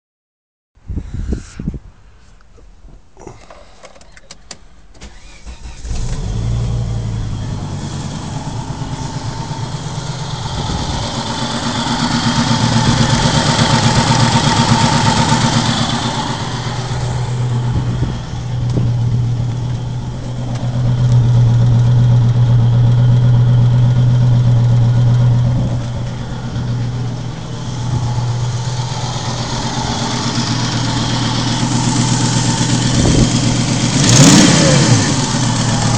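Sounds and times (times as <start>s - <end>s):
car engine cranking and starting: 3.3s - 35.9s
engine running with a misfire: 5.0s - 35.9s.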